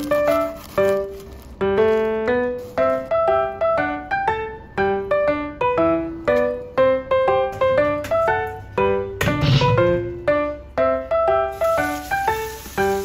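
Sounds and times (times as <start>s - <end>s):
keyboard melody: 0.0s - 13.0s.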